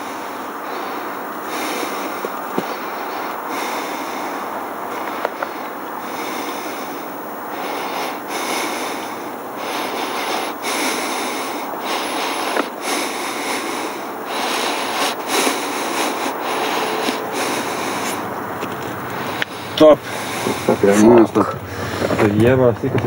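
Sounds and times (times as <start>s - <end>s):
person breathing hard: 0.0s - 22.3s.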